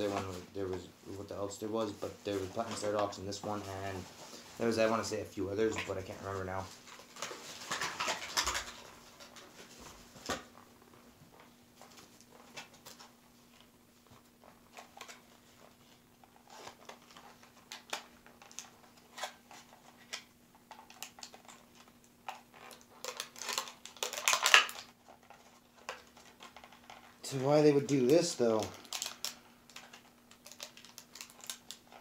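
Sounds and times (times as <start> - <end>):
faint steady hum: 0.0 - 32.0
plastic packaging crinkling: 2.0 - 10.7, 14.6 - 32.0.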